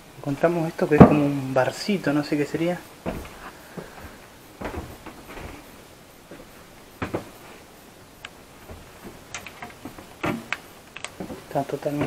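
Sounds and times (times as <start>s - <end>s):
knocks and light thuds: 0.8s - 7.7s, 8.4s - 12.0s.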